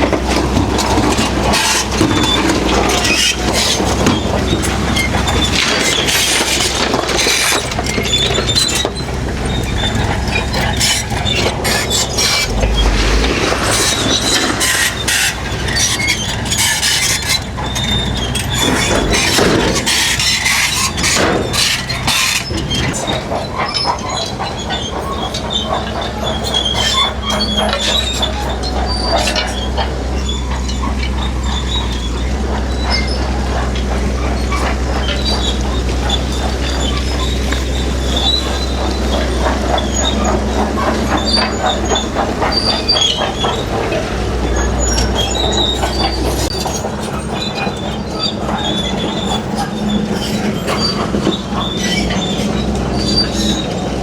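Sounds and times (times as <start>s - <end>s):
diesel engine running: 0.0s - 54.0s
steel tracks clanking and squealing: 0.0s - 54.0s.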